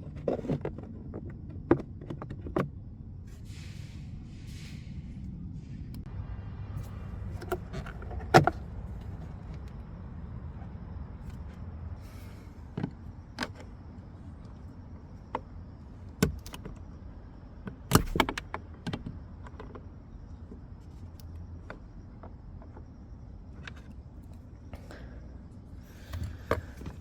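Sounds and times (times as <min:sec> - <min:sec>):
low steady rumble: 0:00.0 - 0:27.0.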